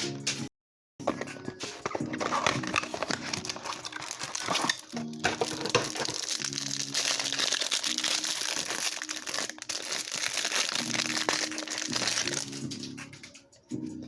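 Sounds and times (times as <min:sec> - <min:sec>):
plastic packaging crinkling: 0:01.1 - 0:12.8.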